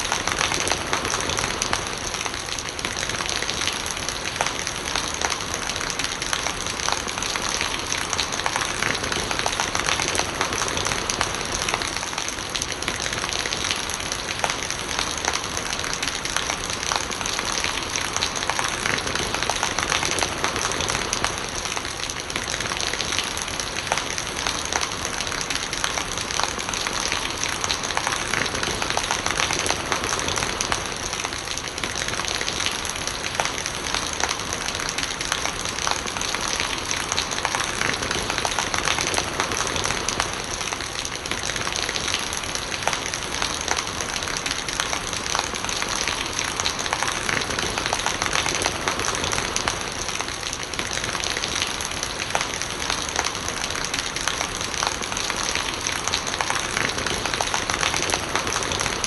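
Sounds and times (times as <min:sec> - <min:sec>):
rain falling: 0:00.0 - 0:59.0
rainwater gurgling: 0:00.0 - 0:59.0.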